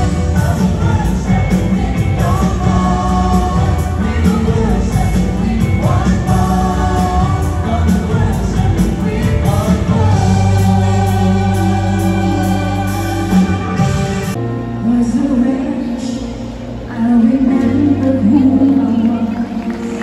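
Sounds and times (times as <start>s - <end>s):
choir singing gospel song: 0.0s - 16.2s
amplified band accompaniment: 0.0s - 20.0s.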